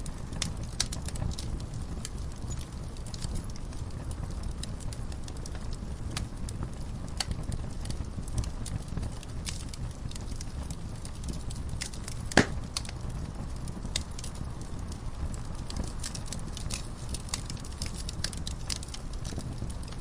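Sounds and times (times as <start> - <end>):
burning logs rumble: 0.0 - 20.0
wood fire popping and snapping: 0.0 - 20.0.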